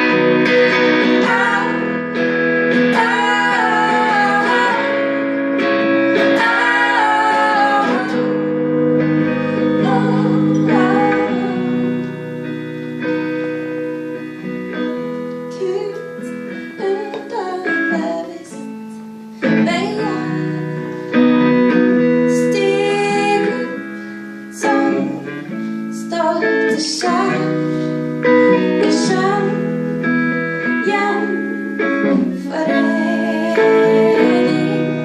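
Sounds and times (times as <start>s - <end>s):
woman singing: 0.0s - 12.5s, 15.4s - 35.0s
guitar playing: 0.0s - 35.0s.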